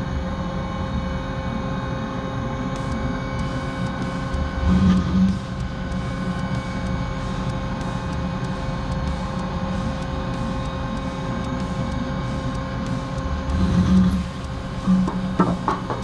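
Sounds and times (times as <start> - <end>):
cnc machine whine and drilling: 0.0 - 16.0.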